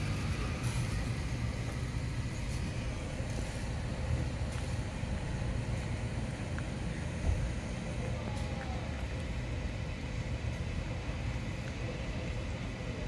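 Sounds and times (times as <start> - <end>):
motor vehicles rumbling: 0.0 - 13.0.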